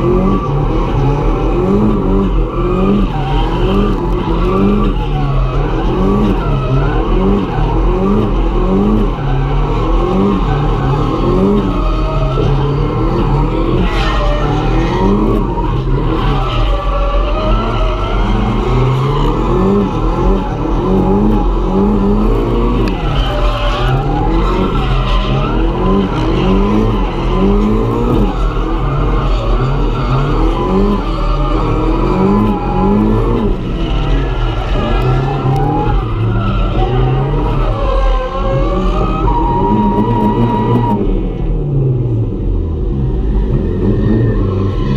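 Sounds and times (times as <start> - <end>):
car engine revving: 0.0 - 44.9
tyres skidding: 0.0 - 44.9.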